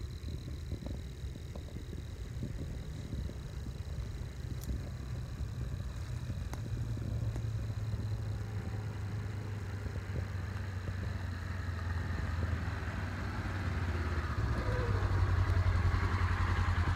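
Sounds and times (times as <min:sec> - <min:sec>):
utility vehicle engine driving: 0:00.0 - 0:16.9.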